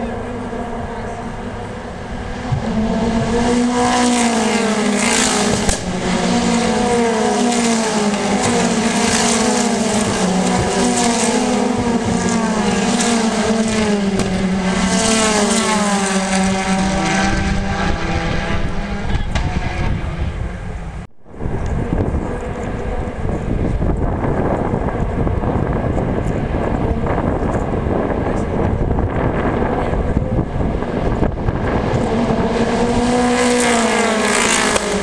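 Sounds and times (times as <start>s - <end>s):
race car engines revving: 0.0s - 35.0s.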